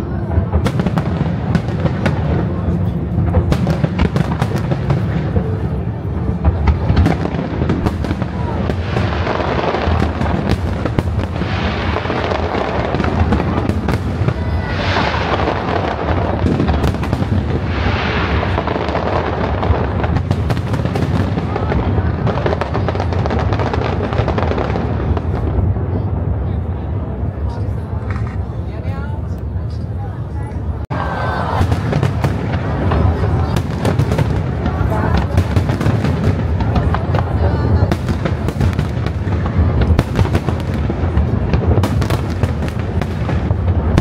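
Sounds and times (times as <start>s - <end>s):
sharp firework bangs: 0.2s - 26.3s, 31.4s - 44.0s.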